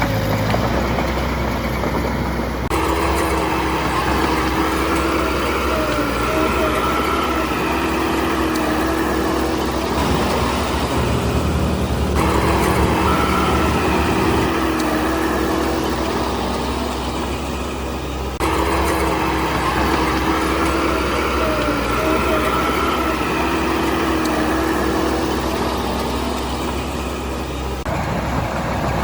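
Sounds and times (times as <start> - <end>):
diesel machinery engine drone: 0.0 - 29.0
high whining tone: 2.7 - 27.2.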